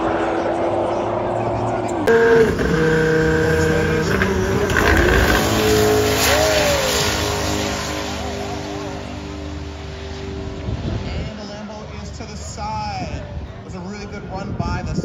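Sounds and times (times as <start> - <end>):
rising and falling whine: 0.0 - 12.6
car engines at full throttle: 0.0 - 13.7.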